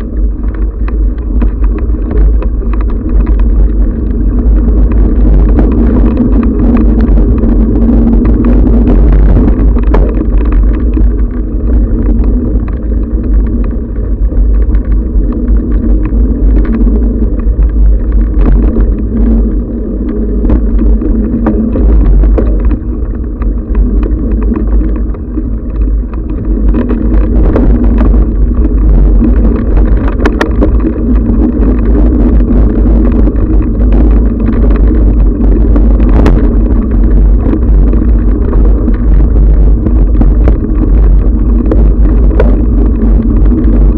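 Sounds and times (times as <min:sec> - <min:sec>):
bike rattling and knocking: 0:00.0 - 0:43.9
low rumble of wind and vibration: 0:00.0 - 0:43.9.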